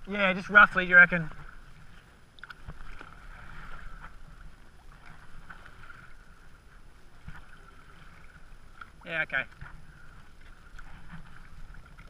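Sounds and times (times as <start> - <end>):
paddle splashing water: 0.0 - 12.0.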